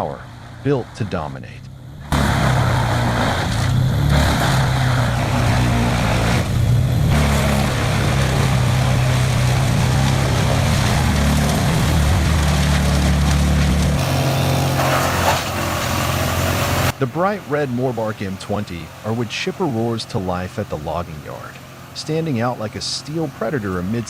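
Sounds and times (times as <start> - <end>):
wood chipper diesel engine drone: 0.0 - 24.0.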